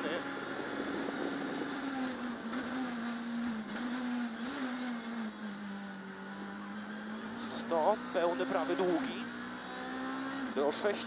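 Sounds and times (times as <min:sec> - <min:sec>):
rally car engine at speed: 0:00.0 - 0:11.0.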